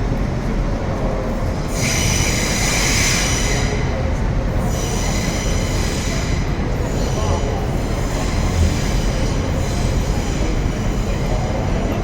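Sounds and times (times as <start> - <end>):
passing train rumble: 0.0 - 12.0
train wheels squealing: 1.6 - 11.9.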